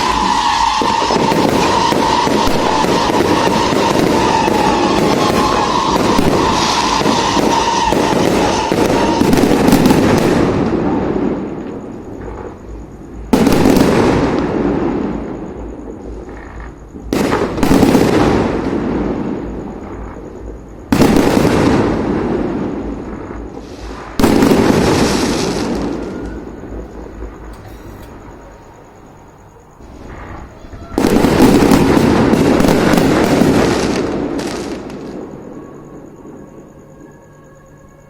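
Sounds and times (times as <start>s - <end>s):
fireworks bangs and crackle: 0.0s - 36.8s.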